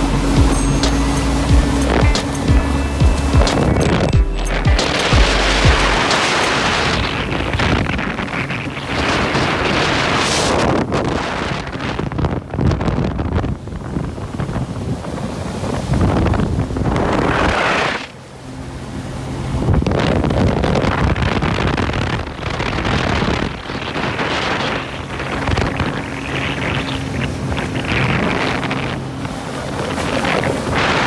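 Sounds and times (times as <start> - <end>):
jet ski engine drone: 0.0 - 31.0
rushing water: 0.0 - 31.0
wind buffeting microphone: 0.0 - 31.0.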